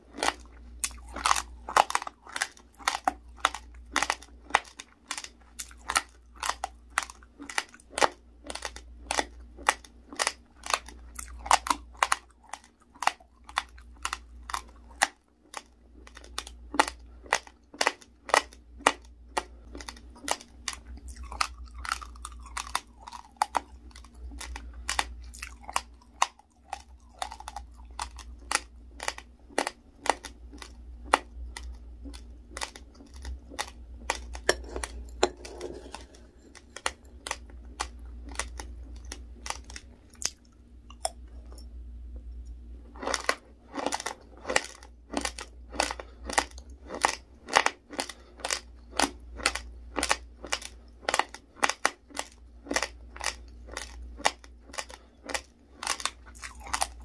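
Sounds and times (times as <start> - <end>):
chewing crunchy rice grains: 0.0 - 57.0.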